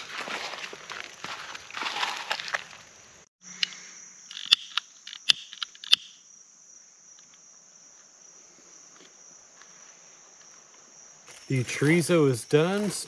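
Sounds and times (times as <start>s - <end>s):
crickets trilling: 0.5s - 13.0s.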